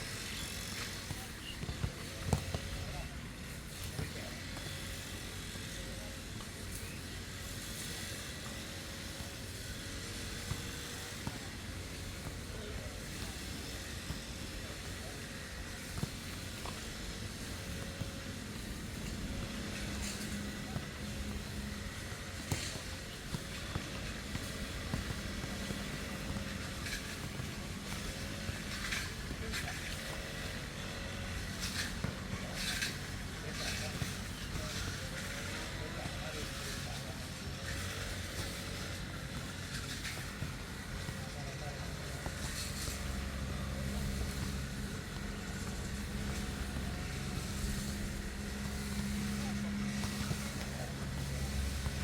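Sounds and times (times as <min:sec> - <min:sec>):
lawn mower engine: 0:00.0 - 0:52.0.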